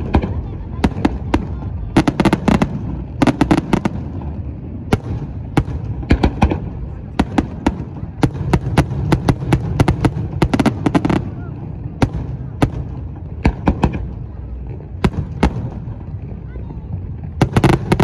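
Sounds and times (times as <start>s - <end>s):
continuous low rumble: 0.0s - 18.0s.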